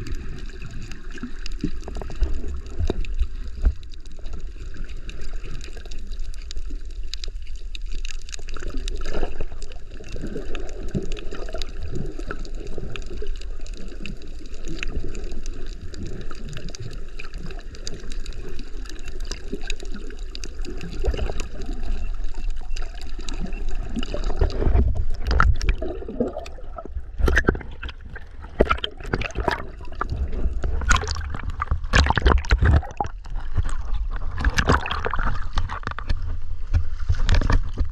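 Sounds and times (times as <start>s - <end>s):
water gurgling underwater: 0.0s - 37.9s.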